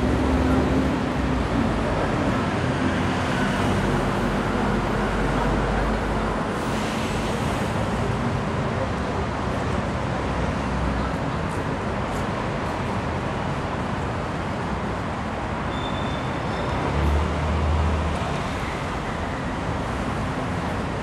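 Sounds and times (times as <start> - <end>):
passing vehicles: 0.0 - 21.0.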